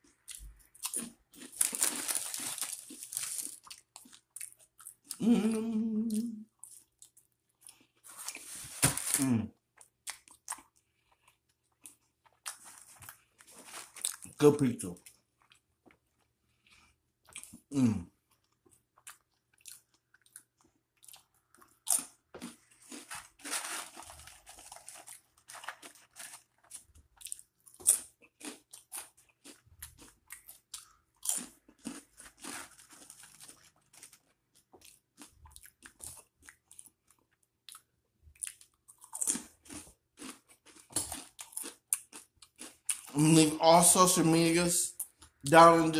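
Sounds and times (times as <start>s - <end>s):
person crunching and chewing: 0.0s - 45.9s.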